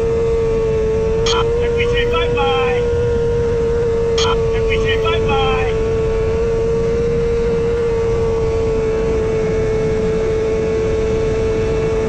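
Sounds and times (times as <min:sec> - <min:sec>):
motorcycle engine high revs: 0:00.0 - 0:12.0.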